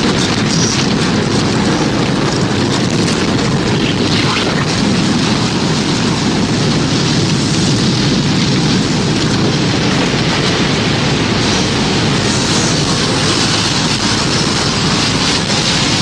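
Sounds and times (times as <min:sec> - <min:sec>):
deep rumble: 0:00.0 - 0:16.0
roaring wind: 0:00.0 - 0:16.0.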